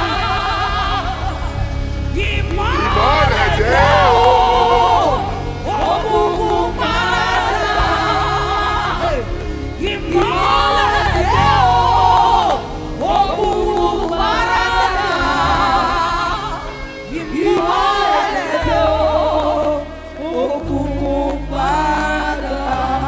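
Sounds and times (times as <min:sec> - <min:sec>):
music with low bass: 0:00.0 - 0:23.0
person singing gospel: 0:00.0 - 0:23.0.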